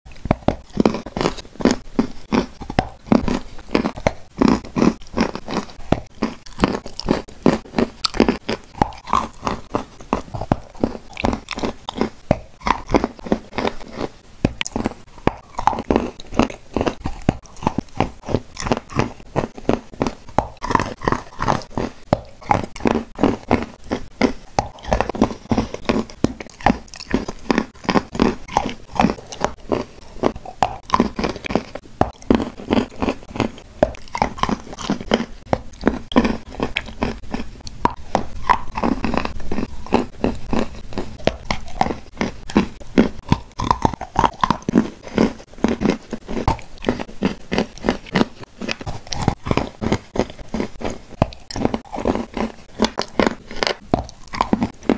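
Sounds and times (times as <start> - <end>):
crunchy cookie chewing: 0.1 - 54.9.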